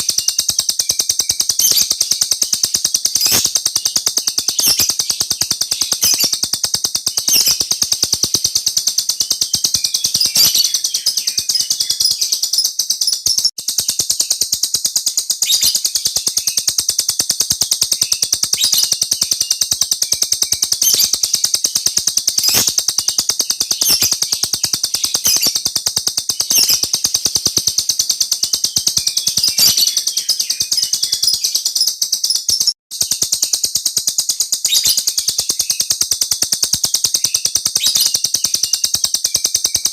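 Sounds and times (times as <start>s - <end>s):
small bird trilling: 0.0s - 33.6s, 34.6s - 36.0s, 36.8s - 39.9s.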